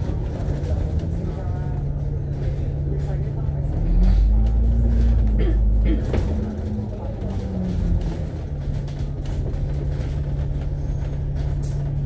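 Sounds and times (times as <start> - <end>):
bus diesel engine hum: 0.0 - 12.0.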